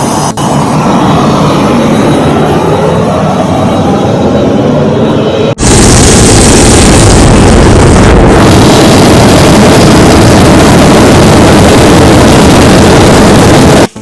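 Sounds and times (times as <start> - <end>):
jet engine rushing: 0.0 - 14.0.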